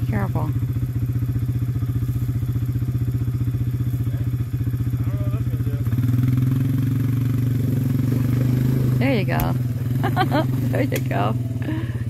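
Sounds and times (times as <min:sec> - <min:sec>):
quad engine idling and revving: 0:00.0 - 0:12.0.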